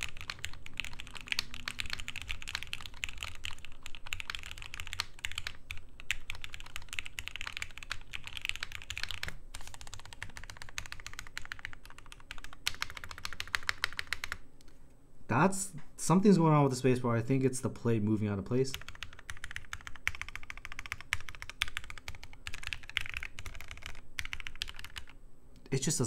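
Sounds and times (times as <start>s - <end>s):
mechanical keyboard typing: 0.0s - 14.4s, 18.7s - 25.2s.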